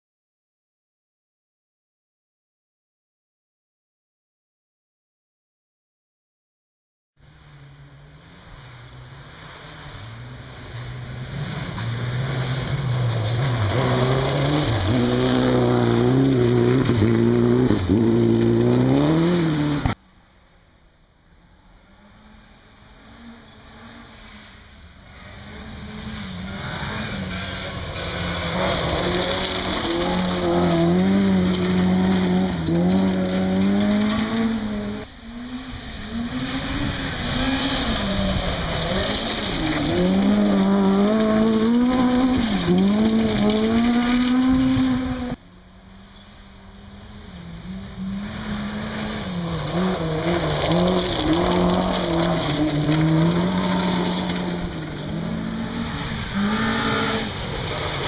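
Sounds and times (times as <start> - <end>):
rally car engines revving past: 7.3 - 58.0.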